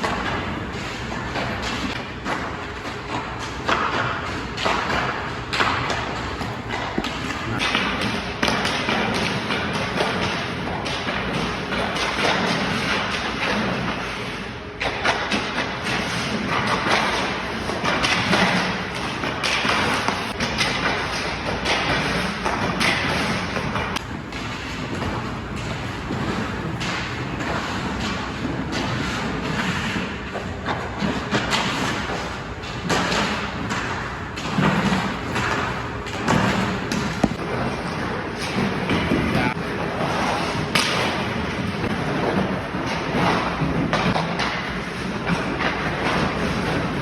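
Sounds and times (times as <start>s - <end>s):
skate blades scraping ice: 0.0s - 47.0s.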